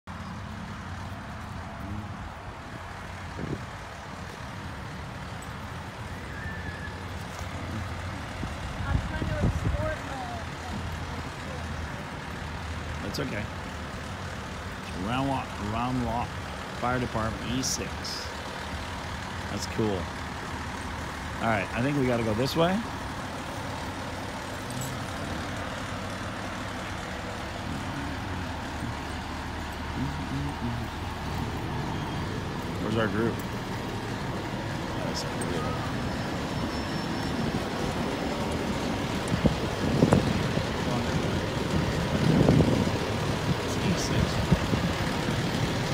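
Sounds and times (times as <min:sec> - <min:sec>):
fire engine diesel rumbling past: 0:00.0 - 0:45.9.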